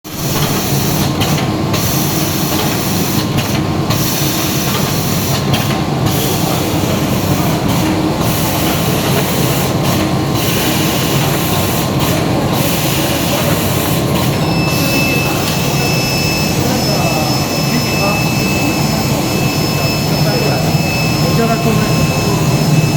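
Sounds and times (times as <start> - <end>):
box-making machine hum and hiss: 0.1 - 22.9.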